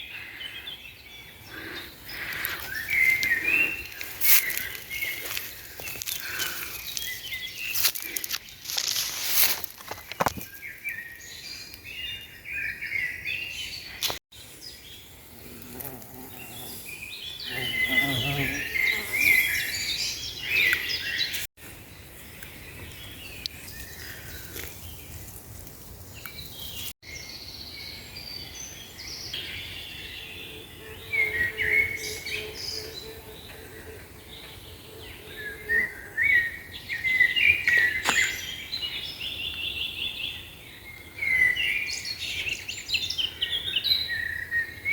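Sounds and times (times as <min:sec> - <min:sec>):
songbirds chirping and singing: 0:00.0 - 0:25.3, 0:26.2 - 0:44.9.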